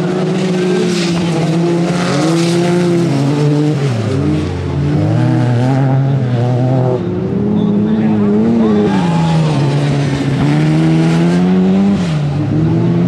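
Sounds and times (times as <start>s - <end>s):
racing engines revving: 0.0s - 13.0s.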